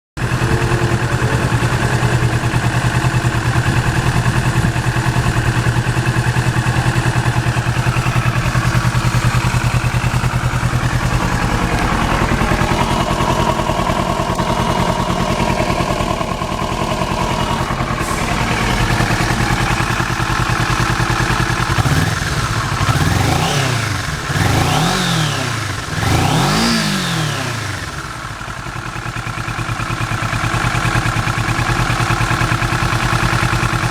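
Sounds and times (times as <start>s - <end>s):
engine revving: 0.2s - 28.5s
motorcycle engine idling: 0.2s - 33.9s.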